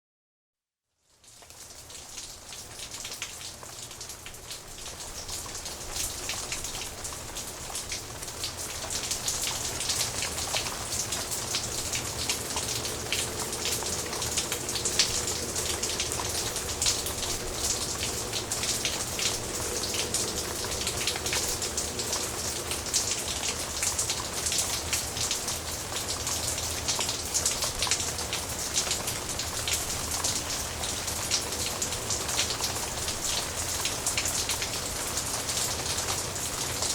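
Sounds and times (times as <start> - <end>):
steady rain falling: 1.0 - 36.9.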